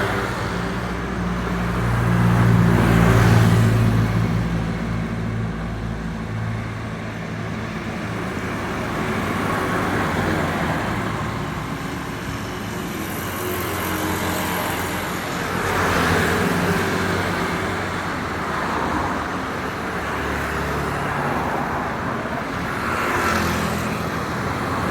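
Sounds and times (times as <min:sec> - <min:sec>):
road traffic passing: 0:00.0 - 0:24.9.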